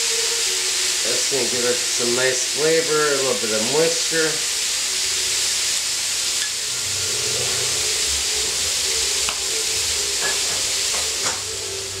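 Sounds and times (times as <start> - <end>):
food sizzling on grill pan: 0.0 - 12.0.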